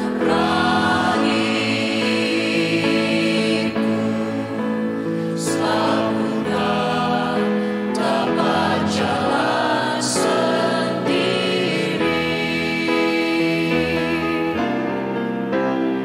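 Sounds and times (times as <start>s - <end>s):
group singing worship song: 0.0s - 14.6s.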